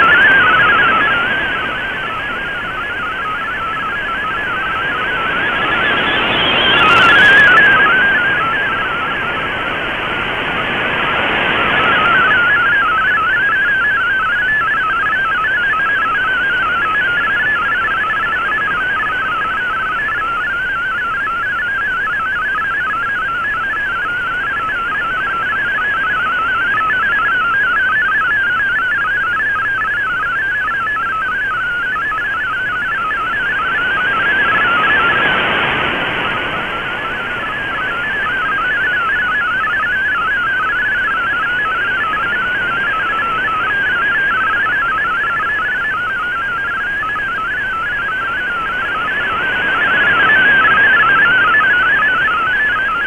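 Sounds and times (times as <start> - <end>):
warbling digital signal tones: 0.0 - 21.0, 25.2 - 53.0.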